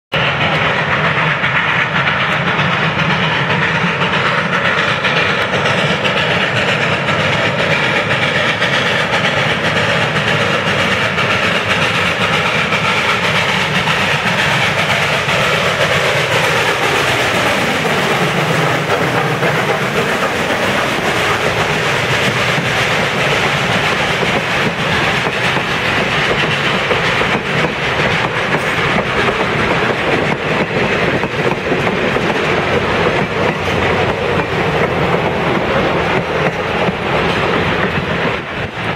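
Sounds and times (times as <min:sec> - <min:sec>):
steam locomotive passing: 0:00.1 - 0:38.9.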